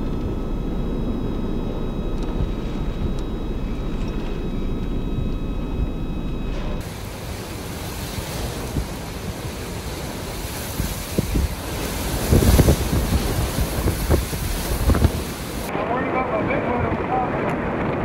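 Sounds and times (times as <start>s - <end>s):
wind buffeting microphone: 0.0s - 5.9s, 6.6s - 18.0s
hurricane wind gusting: 0.0s - 18.0s.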